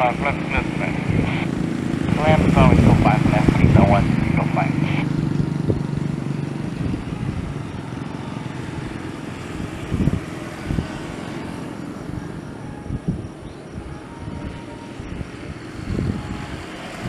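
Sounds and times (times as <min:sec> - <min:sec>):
engine rumble: 0:00.0 - 0:17.0.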